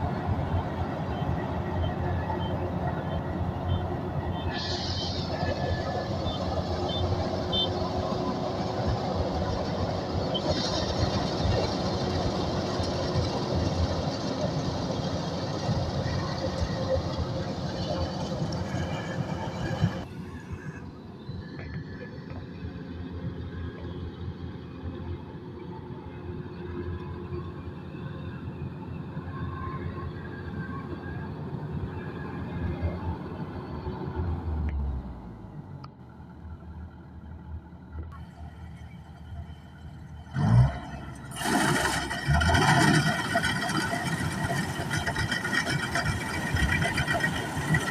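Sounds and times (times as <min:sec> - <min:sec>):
combine harvester engine rumble: 0:00.0 - 0:47.9.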